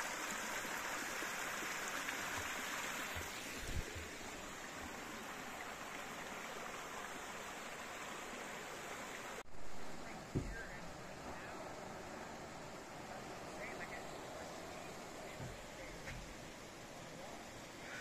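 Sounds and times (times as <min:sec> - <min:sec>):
water running over rocks: 0:00.0 - 0:18.0.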